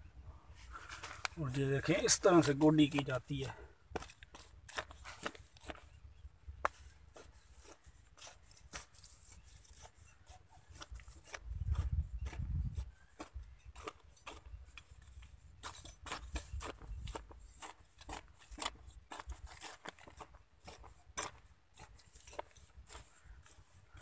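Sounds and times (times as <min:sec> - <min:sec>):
hoe scraping soil: 0:00.7 - 0:06.0, 0:06.6 - 0:24.0.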